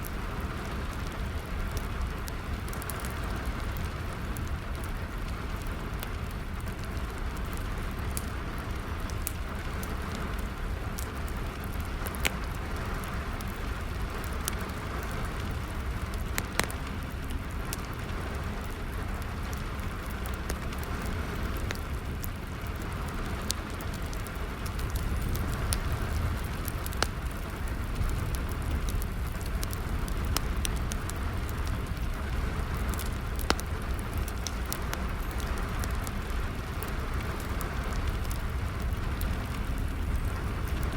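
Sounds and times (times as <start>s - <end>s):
fire crackling and popping: 0.0s - 40.9s
steady rain falling: 0.0s - 40.9s.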